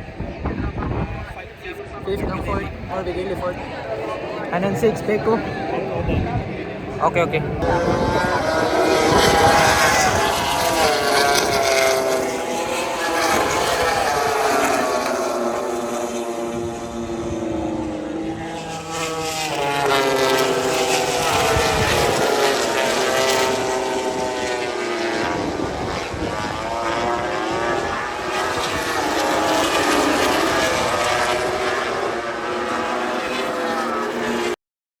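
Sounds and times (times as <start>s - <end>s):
racing motorbikes passing: 0.0s - 34.6s.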